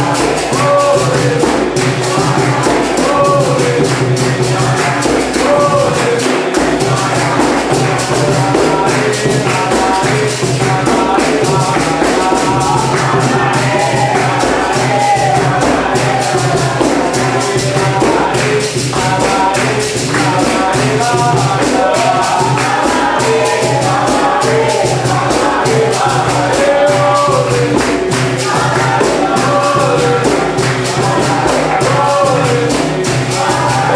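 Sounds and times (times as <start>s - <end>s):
group singing: 0.0s - 33.9s
hand clapping: 0.0s - 33.9s.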